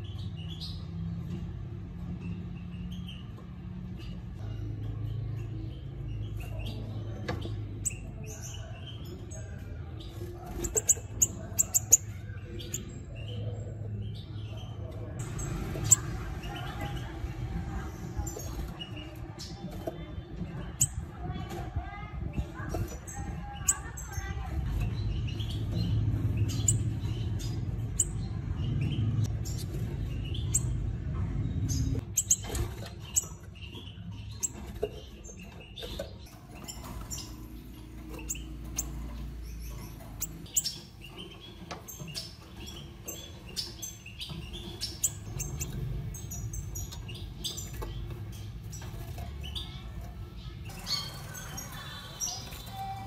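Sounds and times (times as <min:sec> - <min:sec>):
finches squeaking and chirping: 0:00.0 - 0:53.0.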